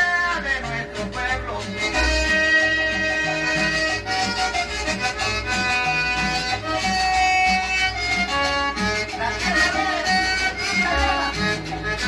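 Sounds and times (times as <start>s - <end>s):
latin dance record playing: 0.0s - 12.0s.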